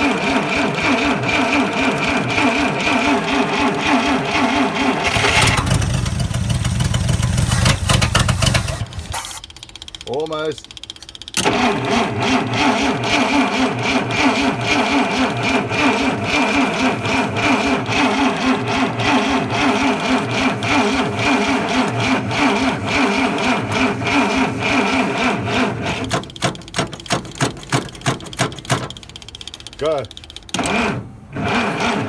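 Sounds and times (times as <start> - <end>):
engine turning slowing strokes: 0.0 - 32.0
starter cranking engine: 0.0 - 32.0.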